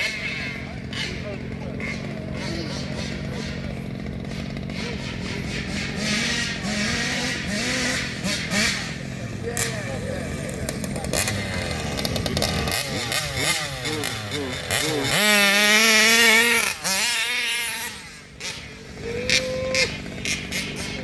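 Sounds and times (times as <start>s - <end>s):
rc car engine revving: 0.0s - 21.0s.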